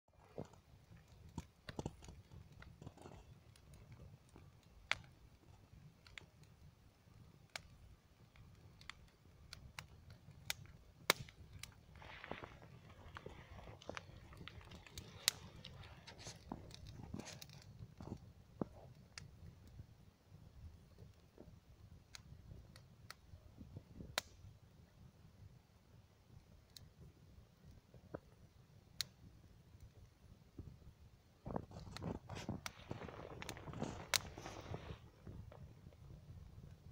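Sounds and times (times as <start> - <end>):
bonfire crackling: 0.1 - 36.9
faint low rumble: 0.1 - 36.9.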